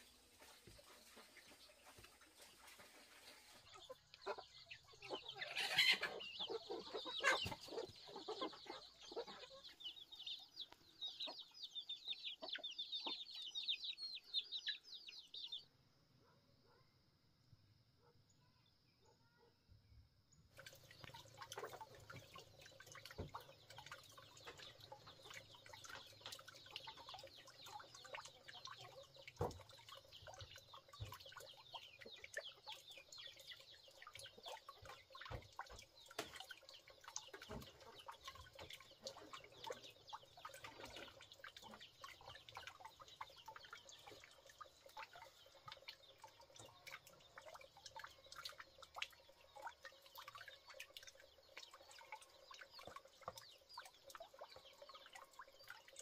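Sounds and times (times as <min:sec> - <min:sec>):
chickens chirping and clucking: 0:00.0 - 0:15.7, 0:20.6 - 0:56.0.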